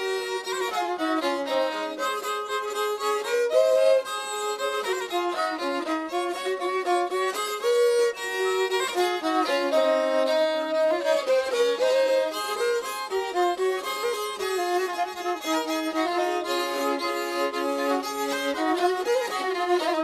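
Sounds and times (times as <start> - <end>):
fiddle melody: 0.0 - 20.0.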